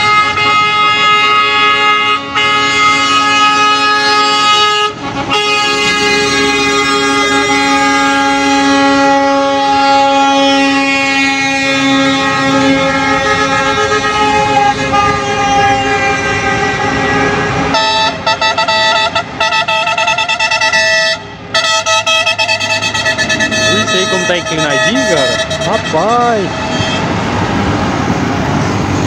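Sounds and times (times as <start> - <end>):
truck horns blasting and tooting: 0.0 - 27.4.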